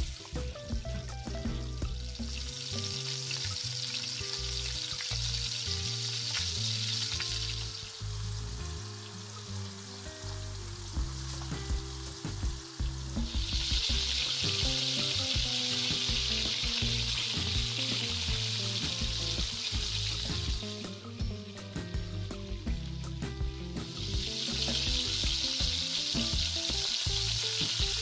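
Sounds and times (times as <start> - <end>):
background music: 0.0 - 28.0
onions sizzling in hot oil: 0.0 - 28.0.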